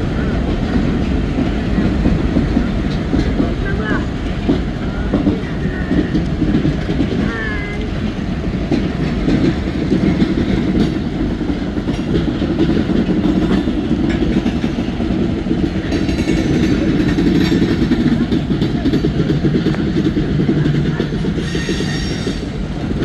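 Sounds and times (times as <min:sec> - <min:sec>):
steel wheels rumbling on rail: 0:00.0 - 0:23.0.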